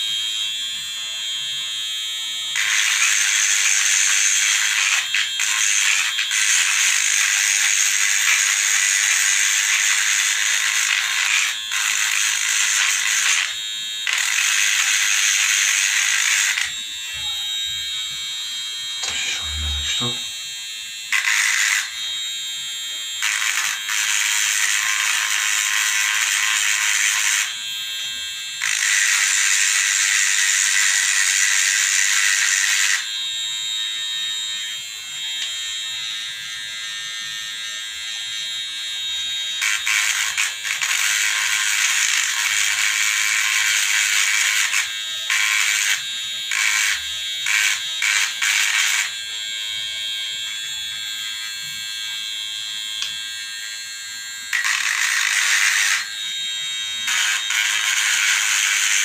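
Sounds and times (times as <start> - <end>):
harsh electrical buzz: 0.0 - 59.0.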